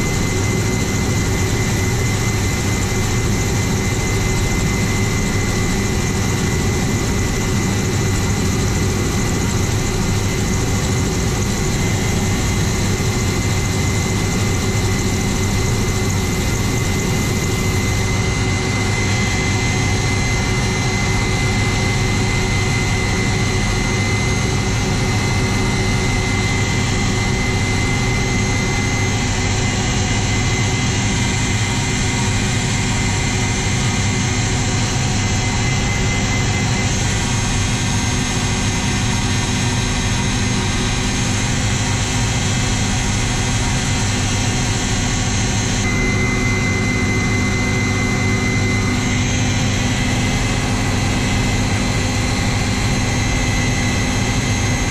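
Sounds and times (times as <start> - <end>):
helicopter engine deep rumble: 0.0 - 54.9
high turbine whine: 0.0 - 54.9.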